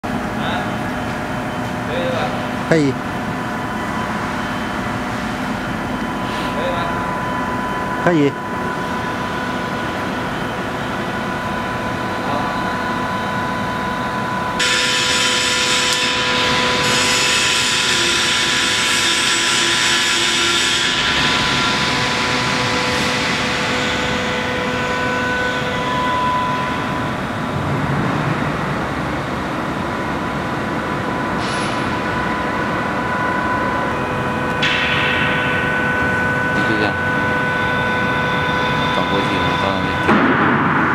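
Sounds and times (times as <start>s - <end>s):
machinery hum with tones: 0.0s - 40.9s.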